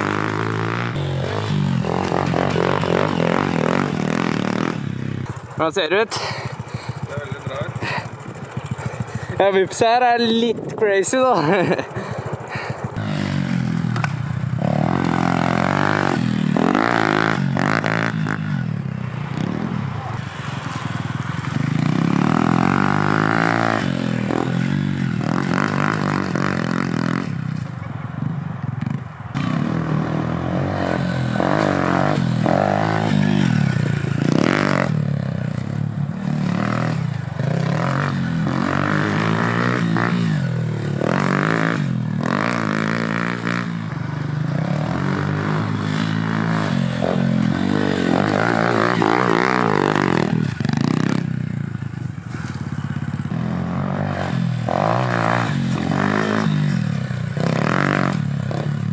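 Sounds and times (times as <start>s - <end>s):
motorbike engine revving: 0.0s - 58.9s.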